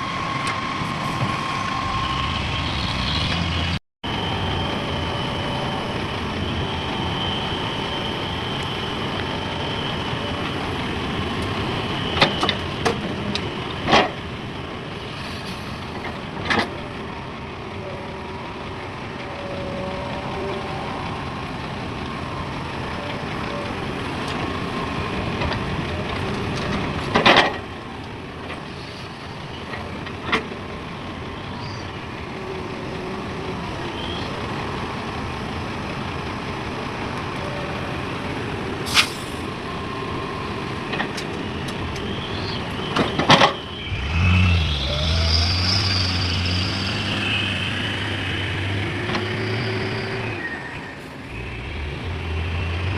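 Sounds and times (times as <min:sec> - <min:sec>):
heavy machinery running: 0:00.0 - 0:52.9.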